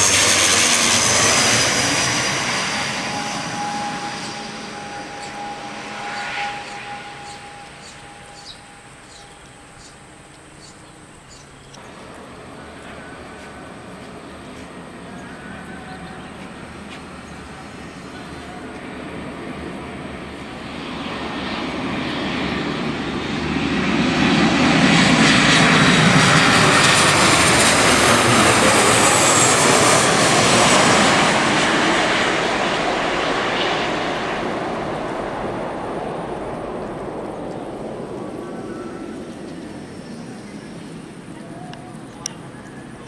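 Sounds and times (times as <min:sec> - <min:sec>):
high jet engine whine: 0:00.0 - 0:43.0
jet airliner engine roar: 0:00.0 - 0:43.0.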